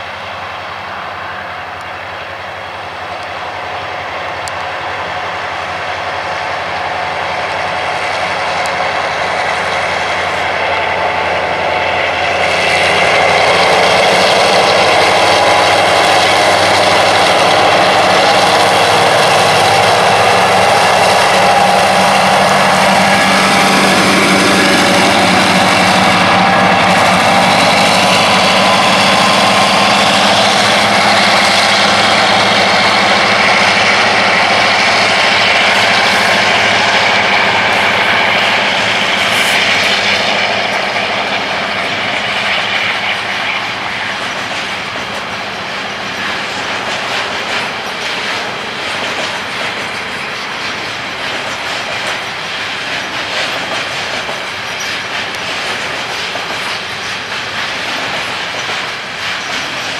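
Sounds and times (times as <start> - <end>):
diesel locomotive engine: 0.0 - 59.9
train wheels clacking over rail joints: 3.0 - 59.9.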